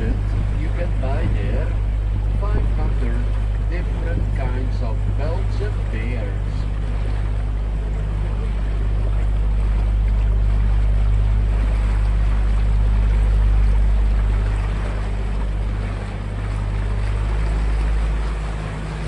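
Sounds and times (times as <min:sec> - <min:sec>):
boat motor humming: 0:00.0 - 0:19.0
water rushing and splashing: 0:00.0 - 0:19.0.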